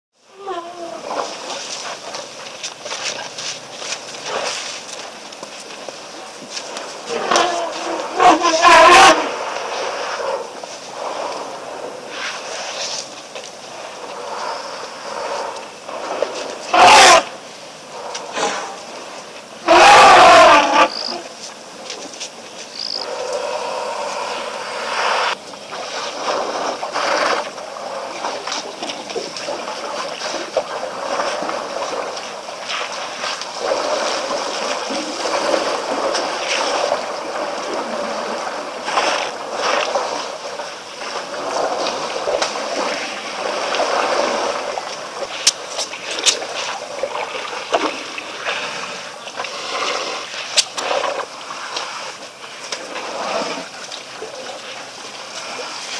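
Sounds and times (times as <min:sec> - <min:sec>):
water splashing and sloshing: 0:00.2 - 0:55.9.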